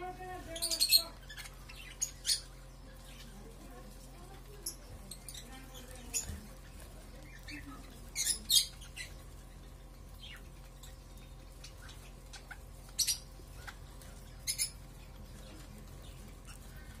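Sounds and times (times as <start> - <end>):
steady low hum: 0.0 - 17.0
budgerigars chirping: 0.2 - 17.0.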